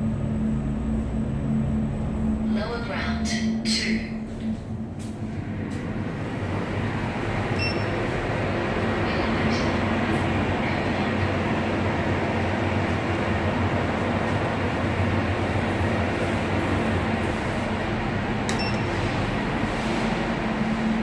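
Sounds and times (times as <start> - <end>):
elevator car rumble: 0.0 - 21.0
low hum: 0.0 - 21.0.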